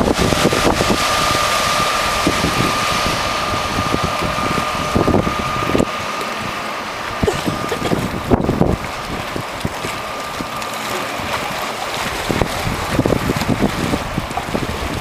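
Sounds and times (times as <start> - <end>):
high-pitched whine: 0.0 - 15.0
wind buffeting microphone: 0.0 - 15.0.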